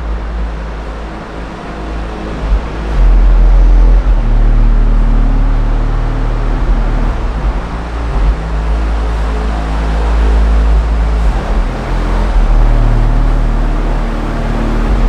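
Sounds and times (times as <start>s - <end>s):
bass-boosted music from subwoofers: 0.0s - 15.0s.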